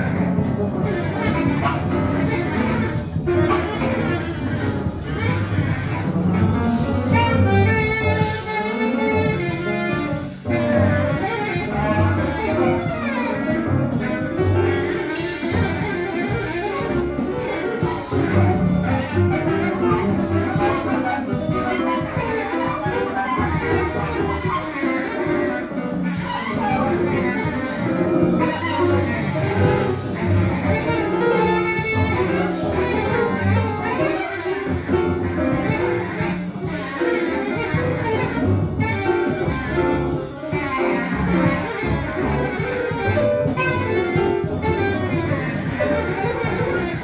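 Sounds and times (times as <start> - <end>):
double bass low notes: 0.0 - 47.0
live jazz quartet: 0.0 - 47.0.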